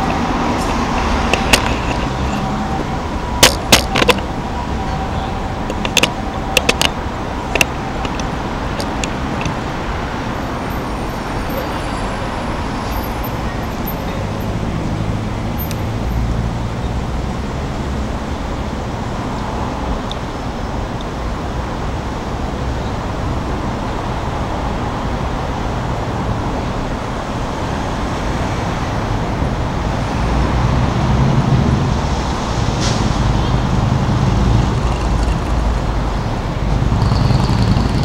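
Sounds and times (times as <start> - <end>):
passing vehicles rumbling: 0.0 - 38.0.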